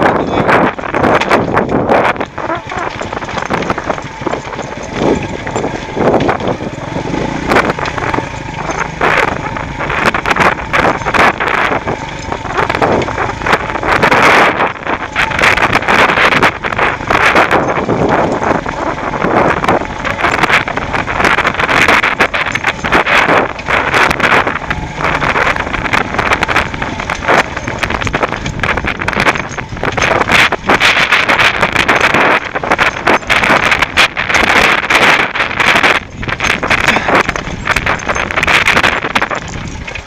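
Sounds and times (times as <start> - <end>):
knocks and rattles over stones: 0.0 - 40.0
motorcycle engine running: 0.0 - 40.0
wind noise on microphone: 0.0 - 40.0.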